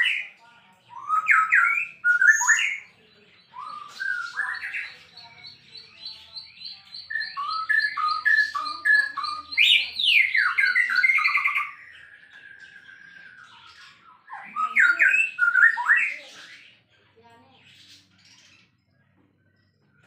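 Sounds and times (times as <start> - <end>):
bird singing: 0.0 - 20.0.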